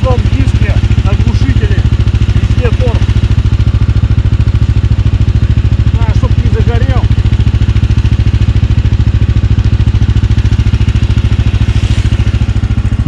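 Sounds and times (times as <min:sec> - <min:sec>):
snowmobile engine idling: 0:00.0 - 0:13.0.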